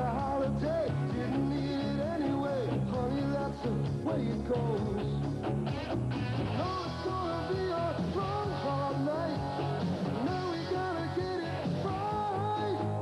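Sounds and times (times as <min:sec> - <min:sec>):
rock band theme music: 0:00.0 - 0:13.0
sliding lead melody: 0:00.0 - 0:13.0.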